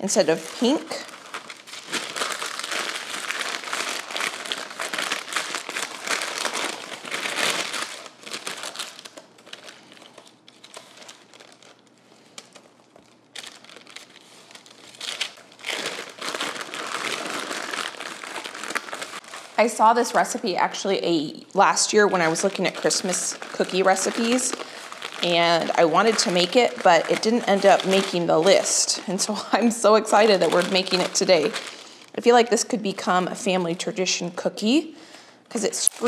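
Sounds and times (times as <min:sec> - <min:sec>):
parchment paper crinkling: 0:00.0 - 0:21.0, 0:21.7 - 0:32.2.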